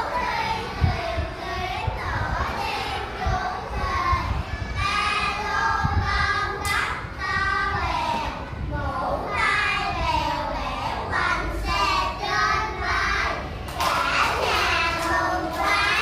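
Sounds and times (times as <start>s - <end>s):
child singing: 0.0s - 16.0s.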